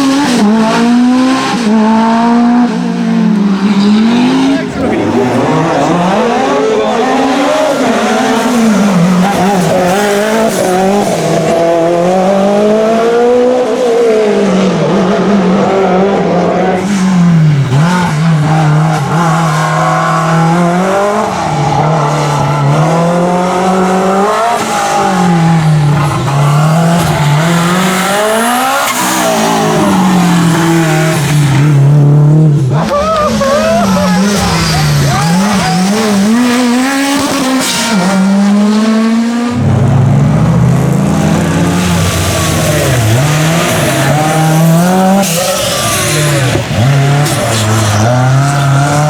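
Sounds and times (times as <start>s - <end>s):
rally car engine revving: 0.0s - 49.0s.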